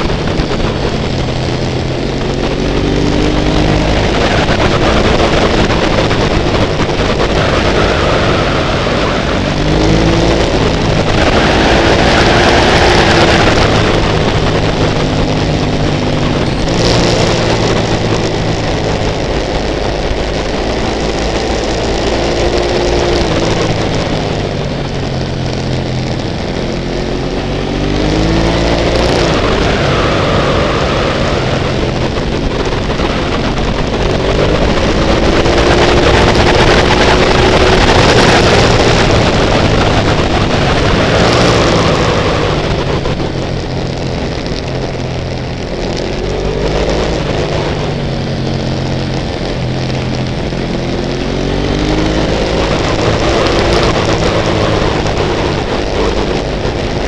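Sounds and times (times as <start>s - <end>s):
motorbike engine revving: 0.0s - 57.0s
wind and road noise: 0.0s - 57.0s.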